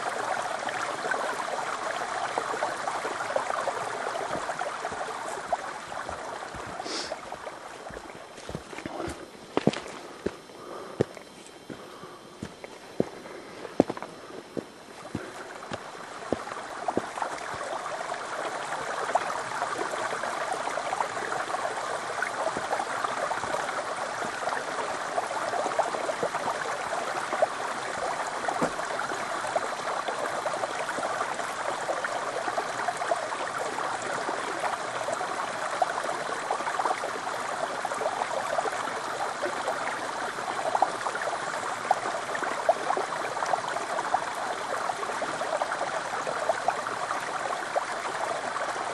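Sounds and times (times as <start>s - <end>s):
stream trickling over rock: 0.0s - 48.9s.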